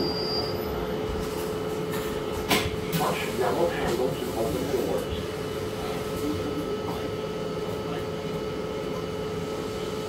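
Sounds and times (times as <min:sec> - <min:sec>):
bus interior drone: 0:00.0 - 0:10.0
constant hum: 0:00.0 - 0:10.0.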